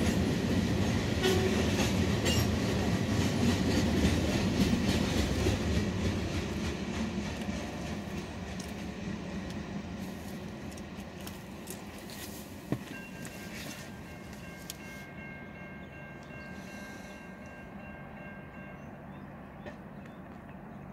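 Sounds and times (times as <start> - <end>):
freight train rumbling: 0.0 - 20.9.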